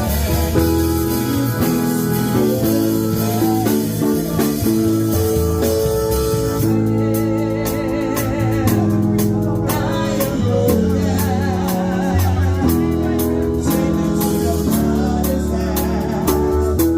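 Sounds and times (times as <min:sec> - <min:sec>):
keyboard chords: 0:00.0 - 0:16.9
person singing with vibrato: 0:00.0 - 0:16.9
steady drum beat: 0:00.0 - 0:16.9.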